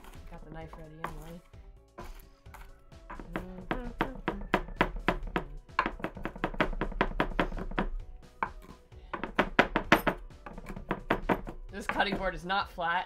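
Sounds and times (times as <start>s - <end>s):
knife chopping on rocking board: 0.0s - 1.3s, 2.0s - 12.4s.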